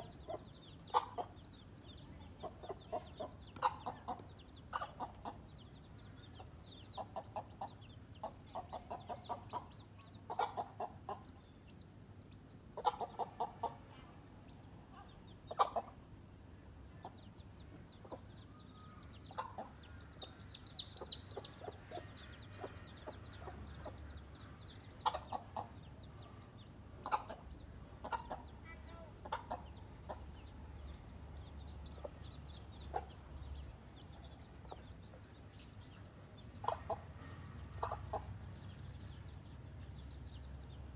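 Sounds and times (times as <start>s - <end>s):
hen clucking: 0.0s - 11.5s, 12.7s - 14.0s, 14.9s - 16.1s, 17.0s - 30.7s, 31.4s - 35.3s, 36.5s - 38.5s
chicks peeping: 0.0s - 40.9s.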